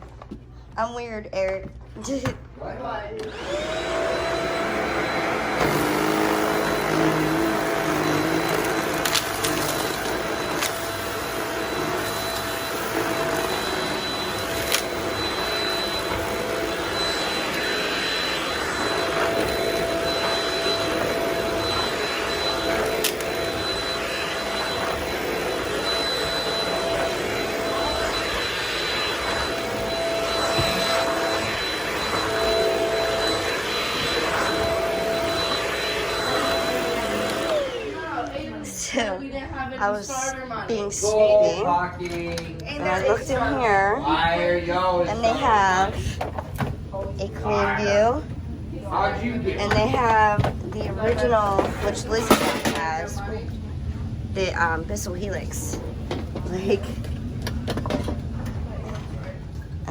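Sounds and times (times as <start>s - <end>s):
vacuum cleaner running: 3.2s - 39.2s, 39.8s - 59.9s.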